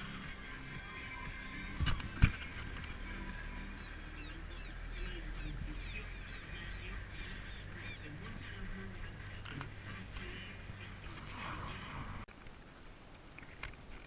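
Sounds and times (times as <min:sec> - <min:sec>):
birds chirping and squawking: 0:00.0 - 0:12.2.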